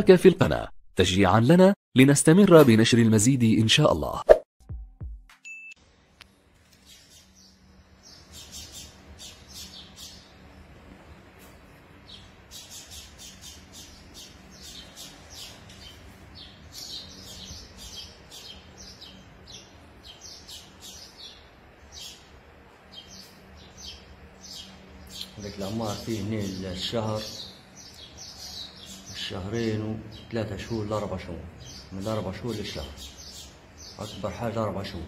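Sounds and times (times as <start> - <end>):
steady low hum: 5.8 - 35.0
small birds chirping: 6.2 - 35.0.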